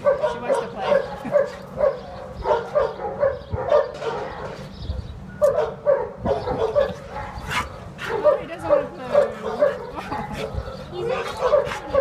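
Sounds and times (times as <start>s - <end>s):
dog barking: 0.0s - 4.6s, 5.4s - 12.0s.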